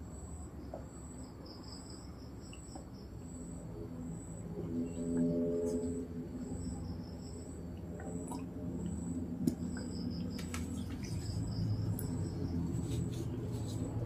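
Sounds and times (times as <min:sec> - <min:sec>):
faint insect chirping: 0:00.0 - 0:14.0
low hum: 0:02.0 - 0:14.0.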